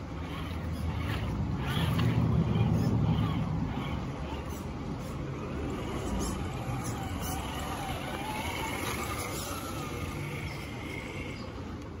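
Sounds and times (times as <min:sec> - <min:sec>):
toy car electric motor whining: 0:00.0 - 0:11.8.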